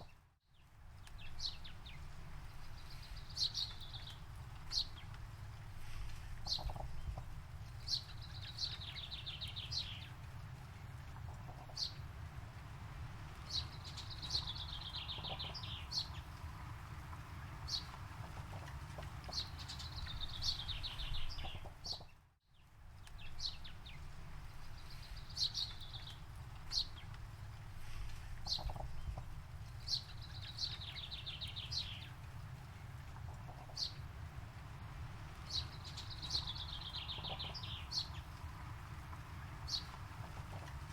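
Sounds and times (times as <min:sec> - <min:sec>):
songbird singing: 0:00.0 - 0:05.2, 0:06.4 - 0:40.9.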